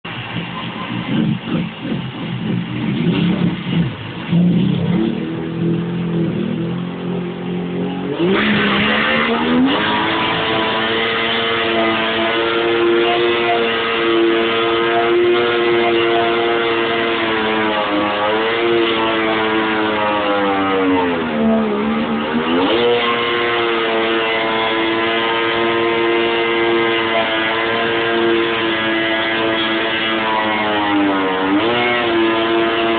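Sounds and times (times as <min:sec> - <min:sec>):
jet ski engine revving: 0:00.2 - 0:32.9.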